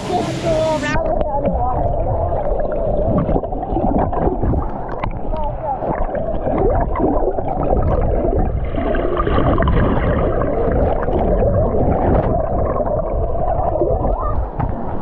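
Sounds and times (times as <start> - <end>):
muffled underwater rumbling and gurgling: 0.0 - 15.0.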